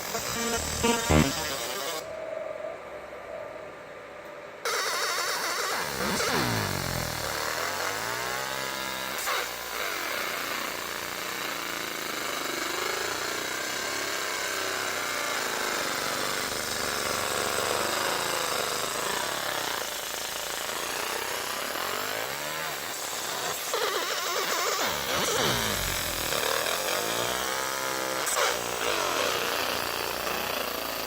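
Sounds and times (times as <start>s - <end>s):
laser engraver buzzing whine: 0.0s - 2.1s, 4.7s - 31.0s.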